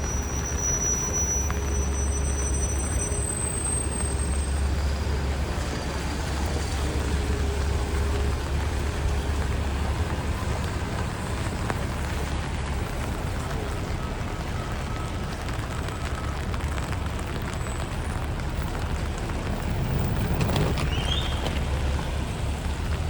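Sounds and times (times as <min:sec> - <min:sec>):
rain and tyres on wet pavement: 0:00.0 - 0:23.0
traffic rumble: 0:00.0 - 0:23.0.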